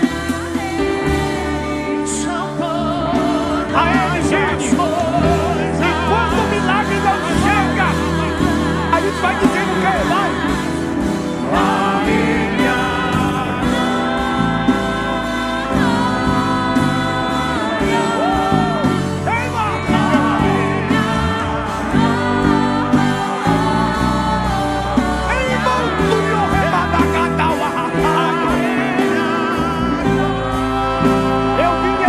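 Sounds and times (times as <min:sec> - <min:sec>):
instrumental backing: 0:00.0 - 0:32.0
voices singing gospel: 0:00.0 - 0:32.0.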